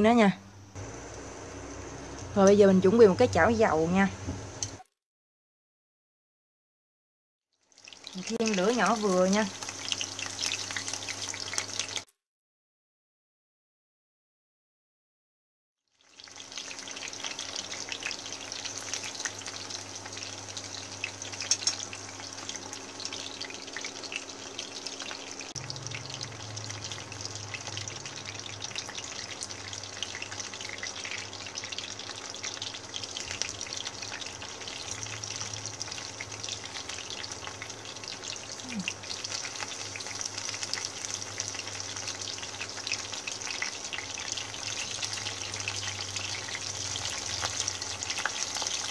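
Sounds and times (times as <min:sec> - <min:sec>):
leaf rolls sizzling in hot oil: 0:00.7 - 0:04.8, 0:07.6 - 0:12.1, 0:15.9 - 0:48.9.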